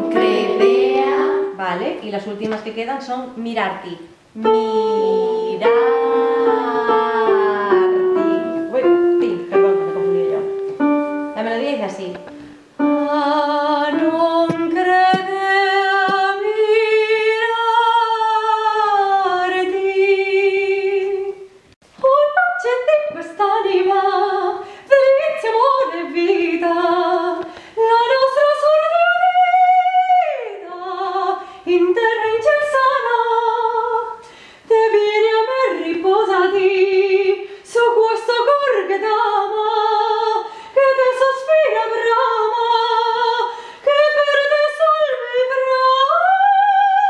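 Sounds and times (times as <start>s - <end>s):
woman singing soprano: 0.0s - 1.6s, 4.4s - 10.6s, 12.9s - 47.0s.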